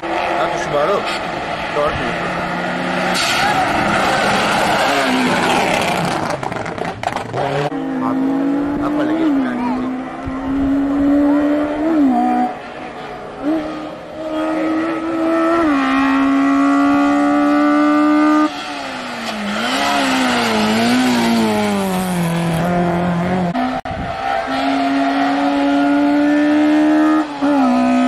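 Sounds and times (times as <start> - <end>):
racing car engines at high revs: 0.0 - 28.0.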